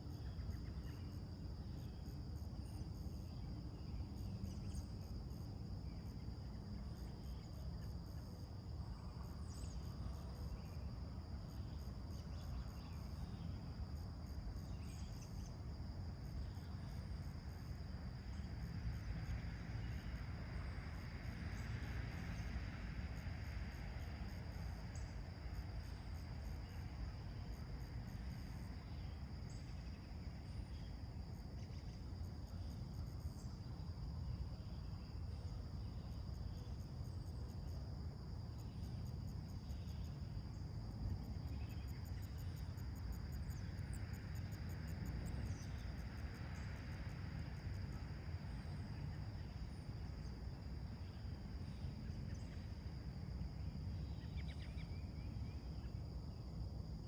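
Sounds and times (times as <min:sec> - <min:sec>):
constant low rumble: 0:00.0 - 0:57.0
crickets and insects trilling: 0:00.0 - 0:57.0.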